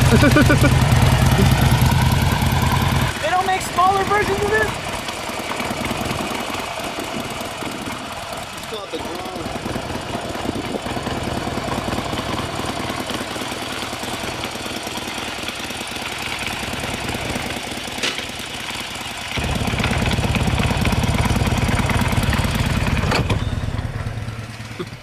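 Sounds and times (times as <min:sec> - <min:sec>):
small motorcycle engine: 0:00.0 - 0:25.0.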